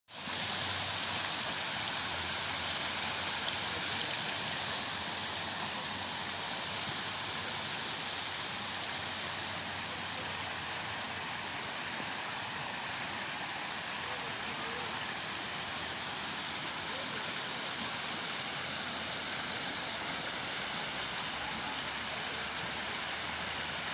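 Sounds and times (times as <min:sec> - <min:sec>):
river rushing over rocks: 0:00.1 - 0:23.9.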